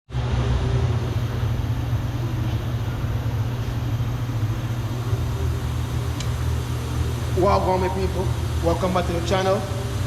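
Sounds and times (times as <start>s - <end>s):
steady low rumble: 0.1s - 10.0s.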